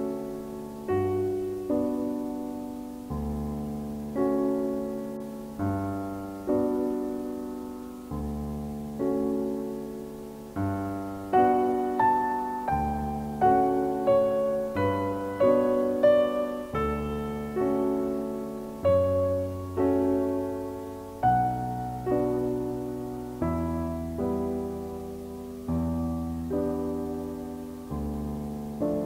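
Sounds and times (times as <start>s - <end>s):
slow piano music: 0.0s - 29.0s.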